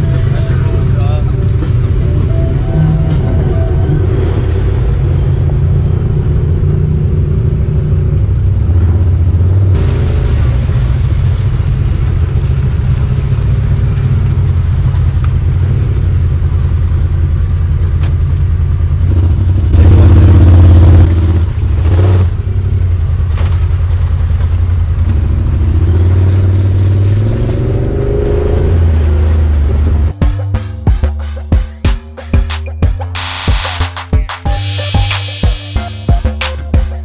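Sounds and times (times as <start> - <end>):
off-road vehicle engine running: 0.0 - 37.0.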